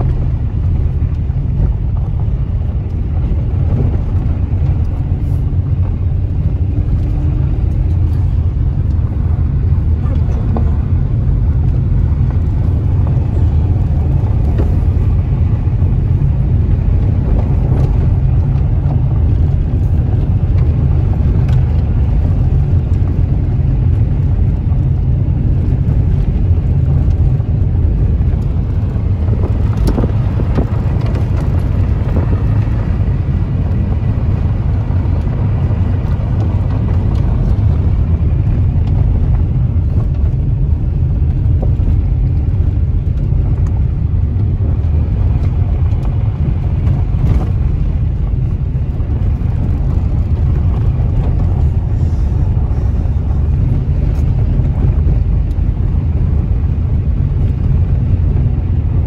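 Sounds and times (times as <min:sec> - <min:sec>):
car driving on gravel: 0:00.0 - 0:59.0.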